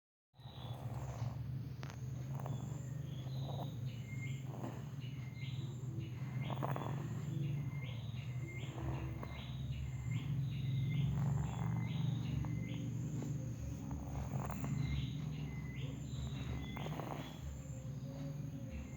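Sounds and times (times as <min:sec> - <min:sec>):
high chirping: 0:02.2 - 0:18.9.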